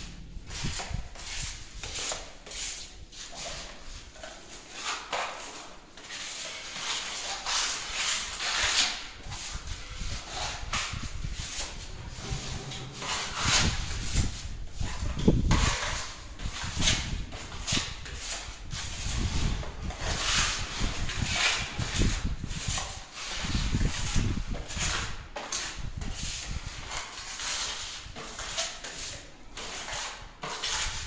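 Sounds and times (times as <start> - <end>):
sandpaper scraping a wall: 0.0 - 31.0.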